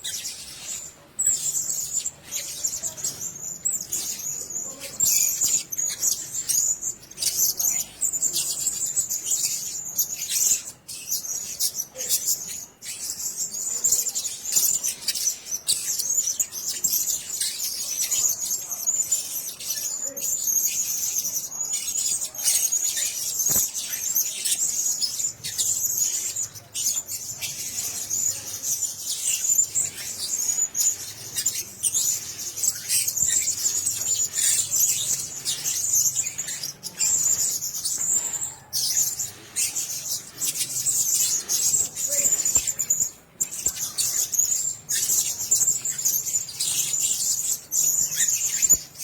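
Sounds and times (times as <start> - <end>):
parrots chirping: 0.0 - 49.0.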